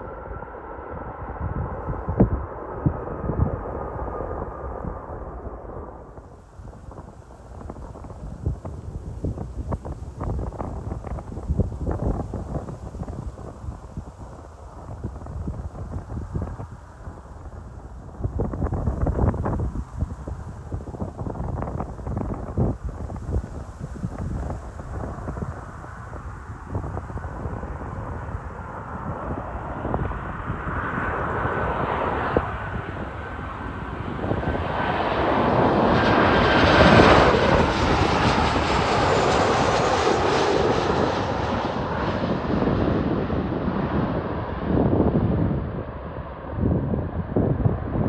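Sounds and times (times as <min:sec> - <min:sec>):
jet airliner passing overhead: 0:00.0 - 0:48.0.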